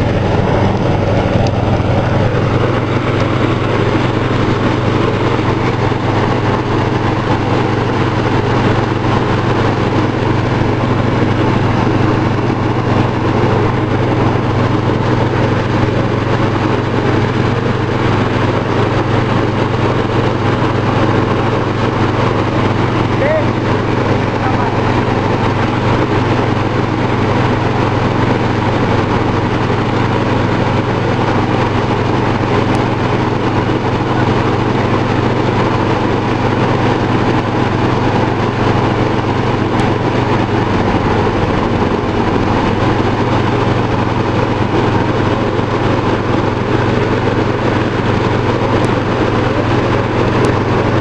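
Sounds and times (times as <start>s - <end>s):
rice thresher droning: 0.0s - 51.0s.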